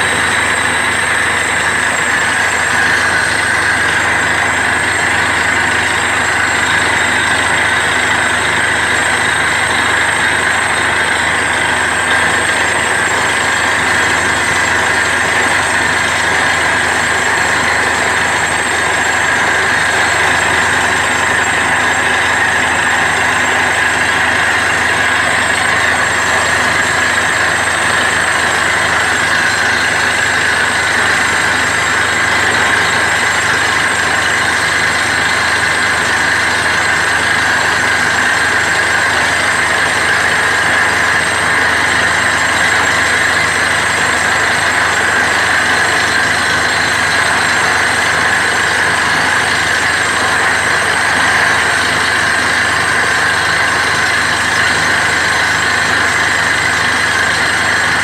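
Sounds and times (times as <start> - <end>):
drilling rig engine and compressor: 0.0 - 58.0.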